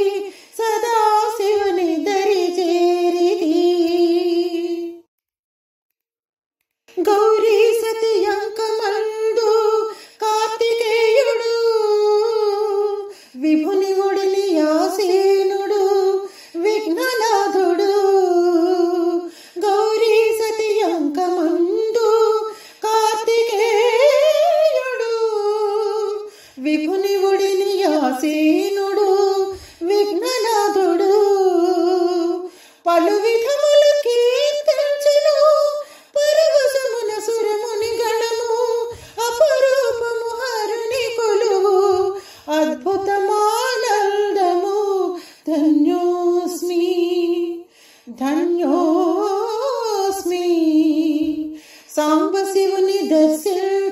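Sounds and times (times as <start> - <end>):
woman singing unaccompanied hymn: 0.0 - 5.0, 7.0 - 53.9.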